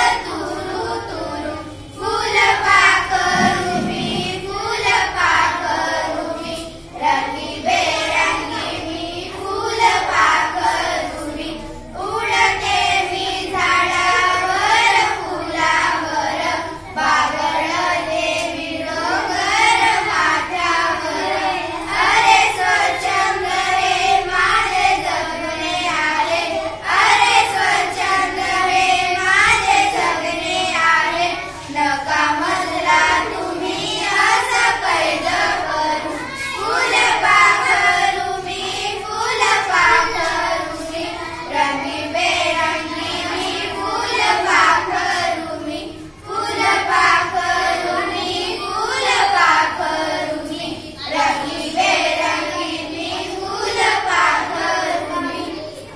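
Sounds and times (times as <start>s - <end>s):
girls singing in unison: 0.0s - 55.9s.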